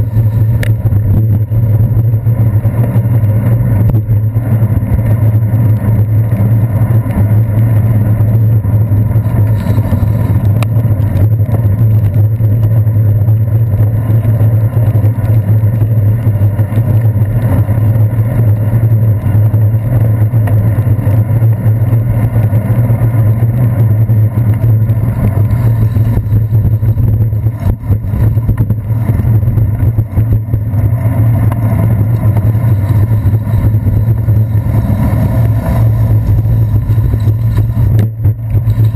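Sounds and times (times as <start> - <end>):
bicycle road and wind rumble: 0.0 - 38.9
motor traffic: 0.0 - 38.9.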